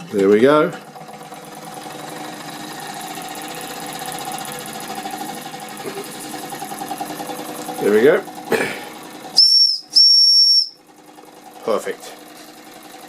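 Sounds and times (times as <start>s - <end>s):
steam engine exhaust beats: 1.1s - 13.0s.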